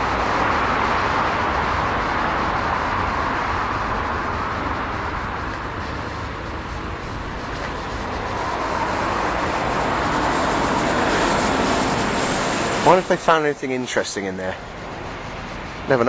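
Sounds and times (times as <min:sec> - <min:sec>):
passing vehicles rushing: 0:00.0 - 0:16.0.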